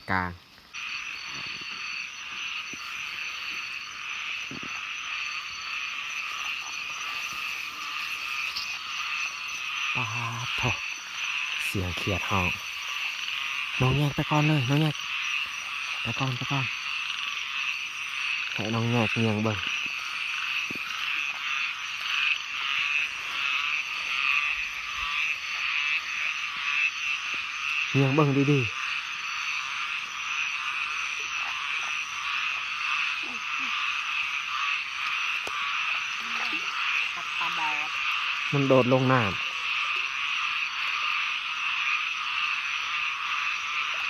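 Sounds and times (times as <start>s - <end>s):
chorus of frogs calling: 0.0s - 44.0s.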